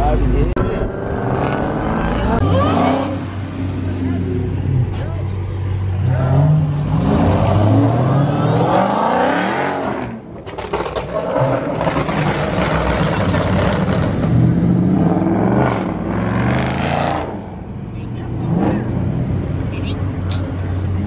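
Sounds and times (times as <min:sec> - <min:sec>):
car engine revving: 0:00.2 - 0:21.0.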